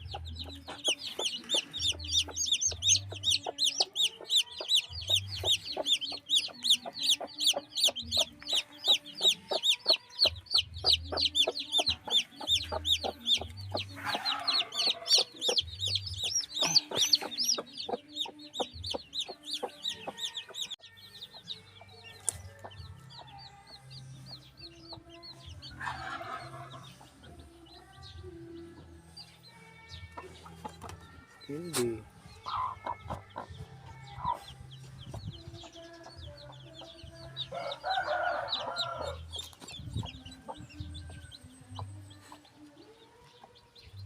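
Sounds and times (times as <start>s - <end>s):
chicks peeping: 0.0s - 44.0s.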